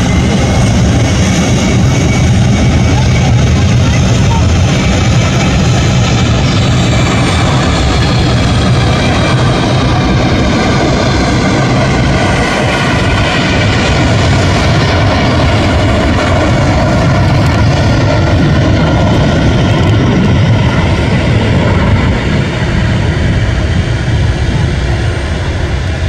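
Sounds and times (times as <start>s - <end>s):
jet engines at takeoff power: 0.0s - 26.0s.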